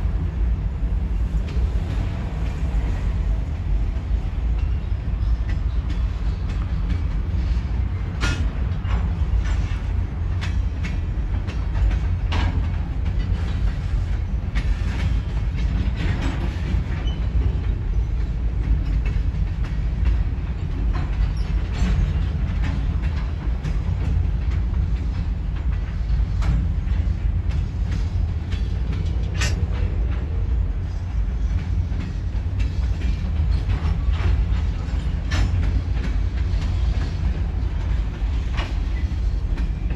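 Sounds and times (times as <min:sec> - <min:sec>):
clicks and clanks of train: 0:00.0 - 0:39.9
train wheels rumbling on rail: 0:00.0 - 0:39.9.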